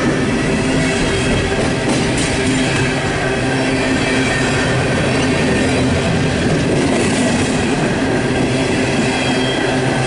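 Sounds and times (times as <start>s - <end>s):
freight train wheels rumbling on rail: 0.0s - 10.0s.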